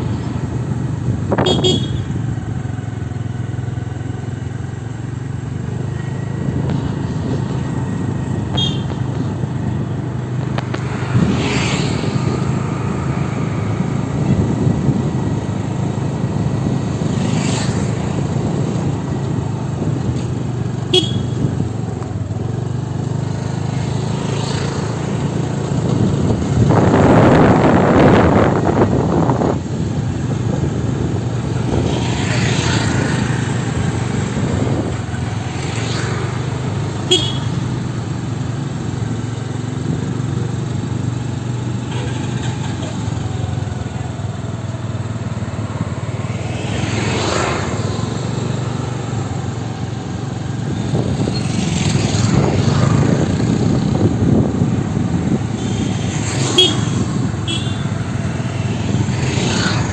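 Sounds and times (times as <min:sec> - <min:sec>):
cars passing: 0:00.0 - 0:59.9
motorcycles passing: 0:00.0 - 0:59.9.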